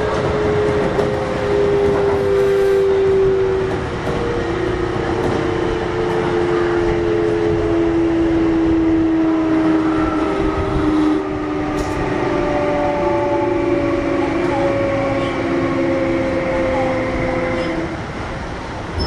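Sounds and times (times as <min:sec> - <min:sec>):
train inverter and motor tones: 0:00.0 - 0:19.0
wheels rumbling on track: 0:00.0 - 0:19.0.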